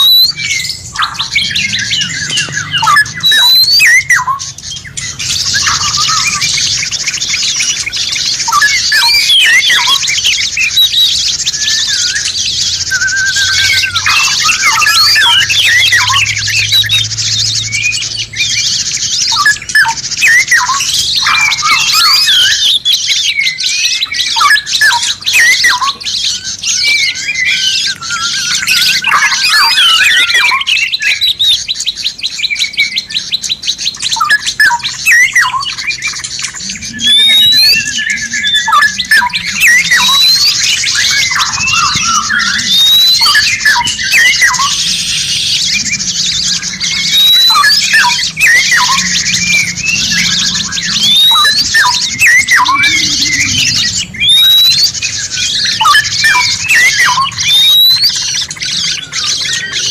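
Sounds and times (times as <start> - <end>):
fast even bird trill: 0.0 - 59.9
songbirds singing: 0.0 - 59.9.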